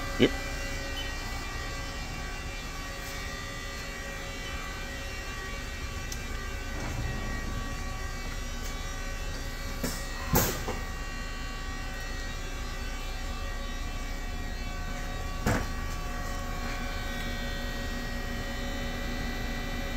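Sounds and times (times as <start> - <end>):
machine humming and whining: 0.0 - 19.9.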